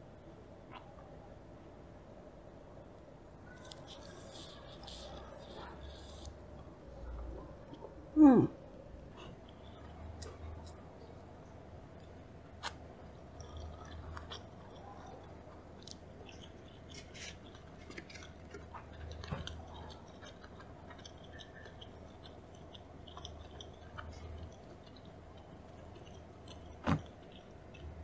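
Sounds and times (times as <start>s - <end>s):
faint steady hum: 0.0s - 28.0s
soft chewing: 0.4s - 28.0s.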